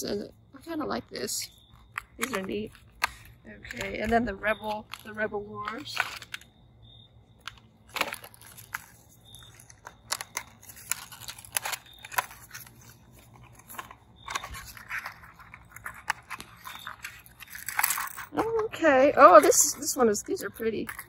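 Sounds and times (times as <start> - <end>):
packaging crinkling and clicking: 1.5 - 6.6, 7.4 - 21.0.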